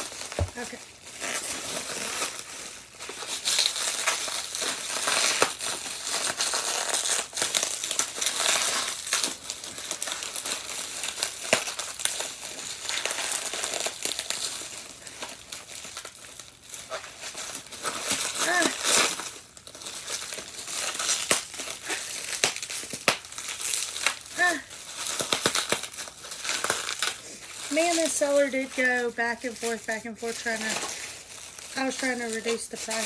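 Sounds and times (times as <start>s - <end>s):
packing material crinkling: 0.0s - 33.0s
sharp crackles and clicks: 3.1s - 33.0s.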